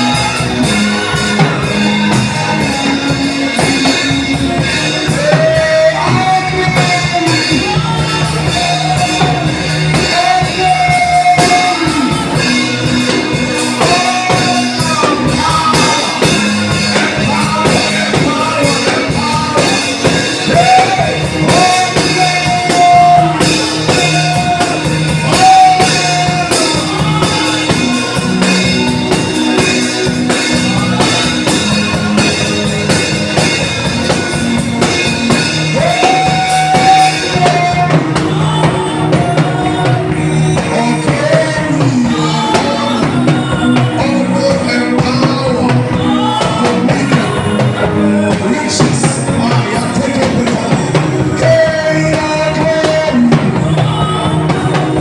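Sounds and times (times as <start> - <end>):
gospel band playing: 0.0 - 55.0
person singing: 0.0 - 55.0.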